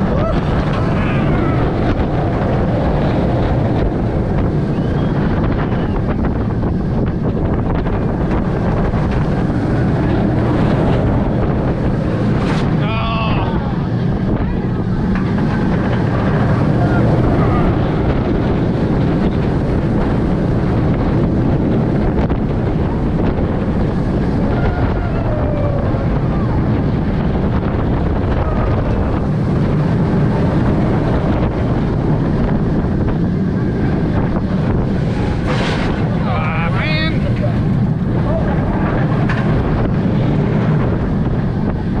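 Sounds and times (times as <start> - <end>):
roller coaster train rumbling: 0.0 - 42.0
wind rushing over microphone: 0.0 - 42.0.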